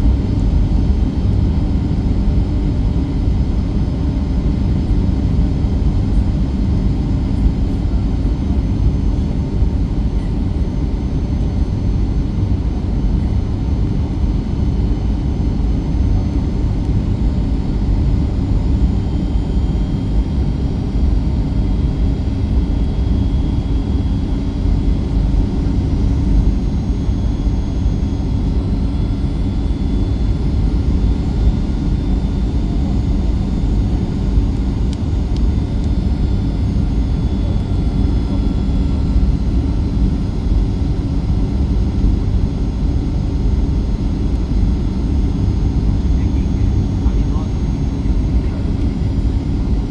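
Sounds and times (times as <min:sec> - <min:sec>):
airplane cabin engine roar: 0:00.0 - 0:49.9.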